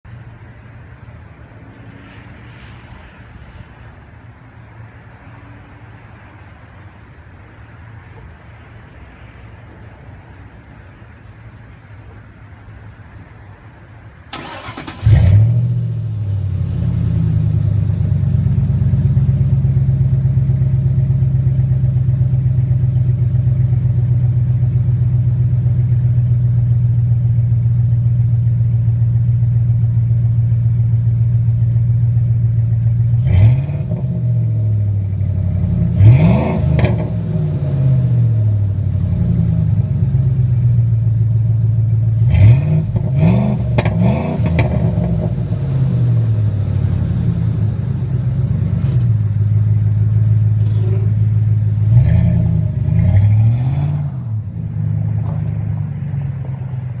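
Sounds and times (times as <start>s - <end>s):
car engine idling and revving: 10.8s - 57.0s.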